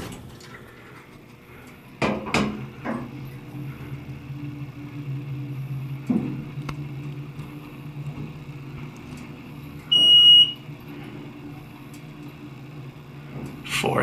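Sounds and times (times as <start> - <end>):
elevator low hum: 0.0 - 14.0
elevator clunks: 1.9 - 13.8.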